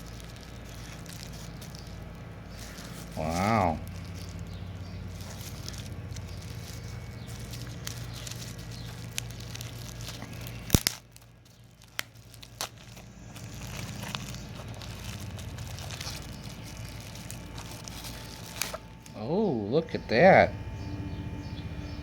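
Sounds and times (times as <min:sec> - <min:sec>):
bubble wrap crinkling: 0:00.0 - 0:20.5
steady low hum: 0:00.0 - 0:22.0.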